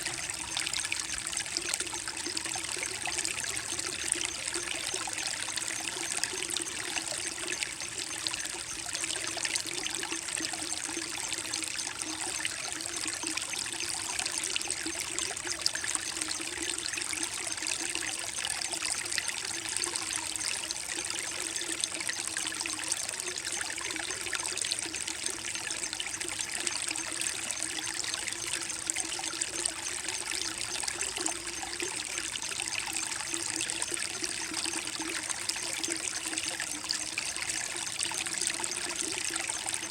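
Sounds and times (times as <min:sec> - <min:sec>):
creek babbling over rocks: 0:00.0 - 0:39.9.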